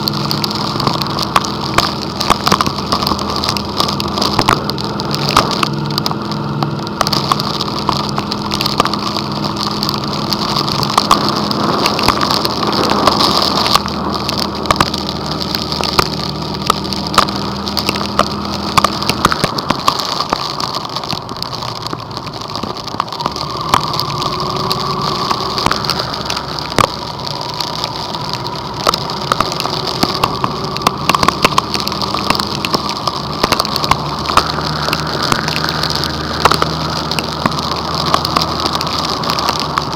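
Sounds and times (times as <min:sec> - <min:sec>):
engine humming: 0:00.0 - 0:39.9
heavy rain pelting vehicle: 0:00.0 - 0:39.9.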